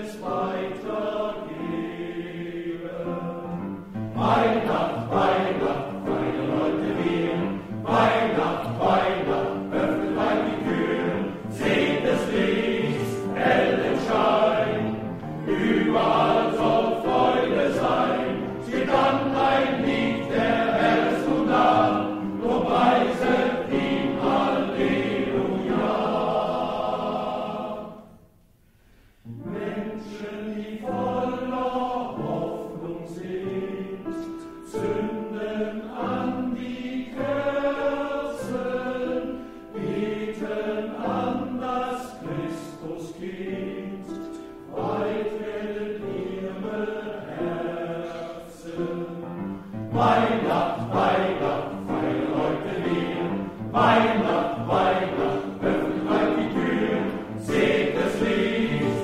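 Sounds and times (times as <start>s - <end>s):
men's choir singing: 0.0s - 28.2s, 29.4s - 59.0s.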